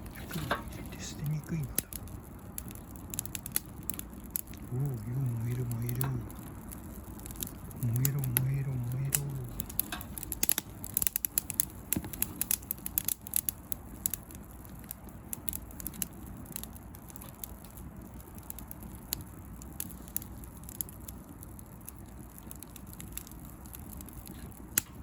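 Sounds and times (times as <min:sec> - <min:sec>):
bonfire crackling and popping: 0:00.0 - 0:25.0
low flame noise: 0:00.0 - 0:25.0.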